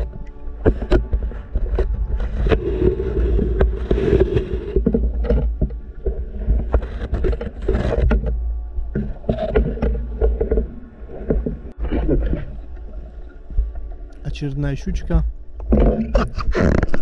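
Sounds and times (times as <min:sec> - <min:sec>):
underwater rumble and swish: 0:00.0 - 0:17.0.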